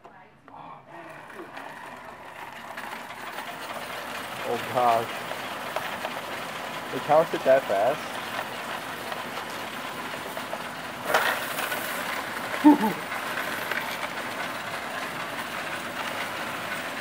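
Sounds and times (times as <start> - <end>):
coins clattering through counting machine: 1.2 - 17.0
coins poured into tray: 1.7 - 17.0.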